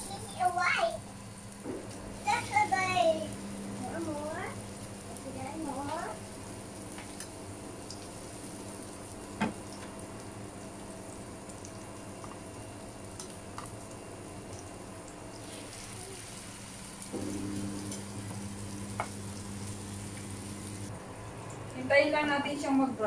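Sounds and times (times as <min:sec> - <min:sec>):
omelette sizzling in oil: 0:00.0 - 0:22.8.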